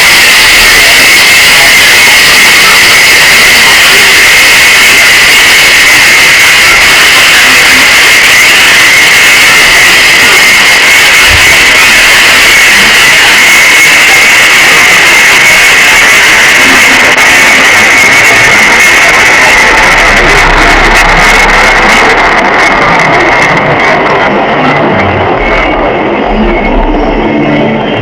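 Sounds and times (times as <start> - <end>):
loud guitar music: 0.0 - 28.0.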